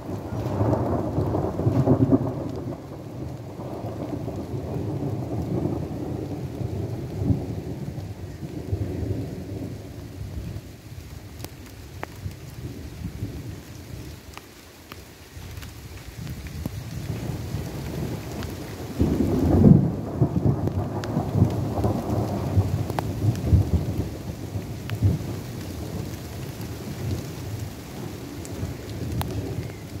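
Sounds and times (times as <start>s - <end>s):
thunder rumbling: 0.0s - 14.1s, 16.3s - 30.0s
rain falling: 0.0s - 30.0s
raindrops ticking: 0.0s - 30.0s.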